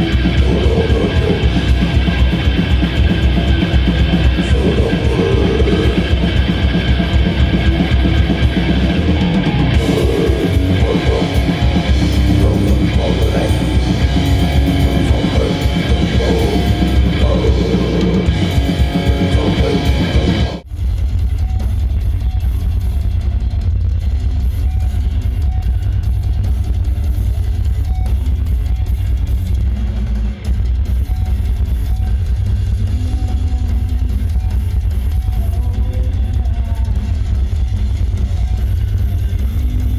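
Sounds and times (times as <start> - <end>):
metal band playing live: 0.0 - 39.9
muffled booming band: 0.0 - 39.9.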